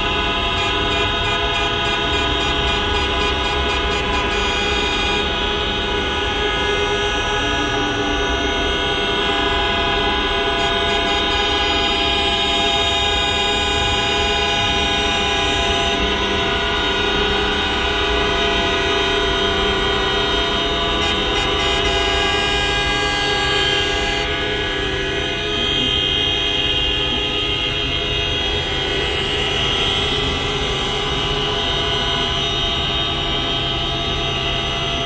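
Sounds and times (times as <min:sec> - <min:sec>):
many car horns sounding: 0:00.0 - 0:35.0.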